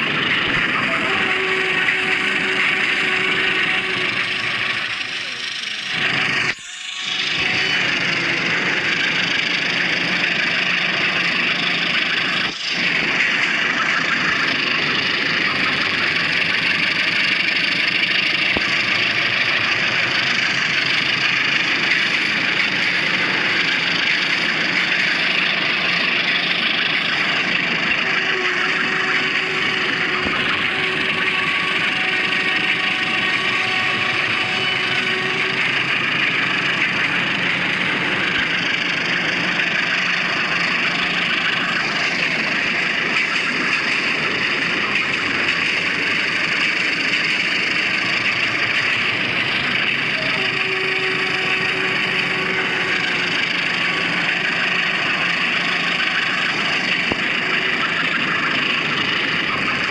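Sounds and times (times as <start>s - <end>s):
diesel train engine: 0.0s - 59.9s.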